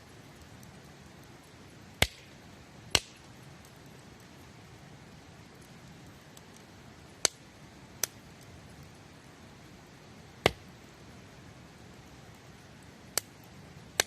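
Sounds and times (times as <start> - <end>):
campfire pops and crackles: 0.0 - 14.0
low hiss: 0.0 - 14.0.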